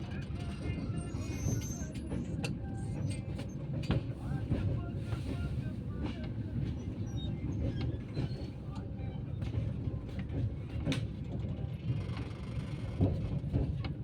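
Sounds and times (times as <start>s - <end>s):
train clanks: 0.0s - 14.0s
train rumbling: 0.0s - 14.0s.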